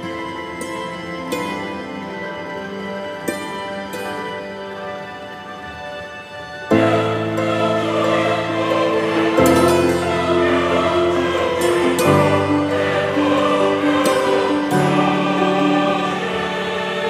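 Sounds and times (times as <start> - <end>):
music with sustained chords: 0.0 - 17.0.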